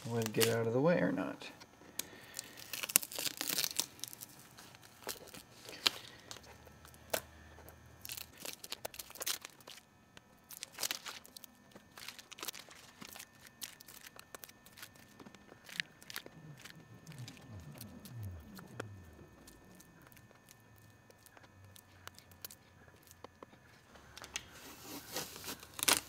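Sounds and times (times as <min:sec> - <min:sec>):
masking film peeling off: 0:00.0 - 0:00.7, 0:02.0 - 0:07.2, 0:08.0 - 0:23.4, 0:24.2 - 0:26.0.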